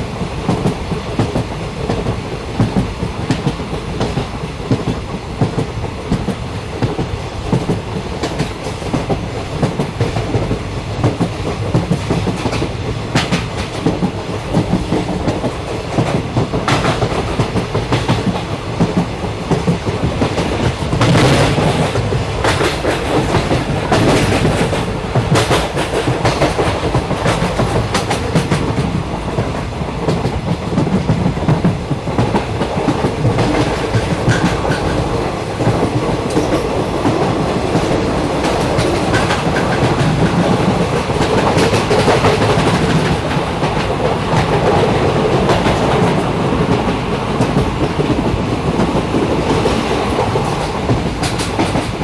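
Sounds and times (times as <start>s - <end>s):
train wheels clicking on rails: 0.0s - 52.0s.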